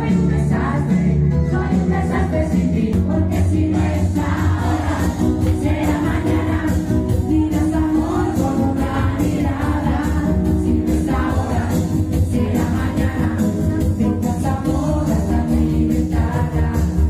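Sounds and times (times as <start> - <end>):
pop song with heavy bass: 0.0 - 17.0.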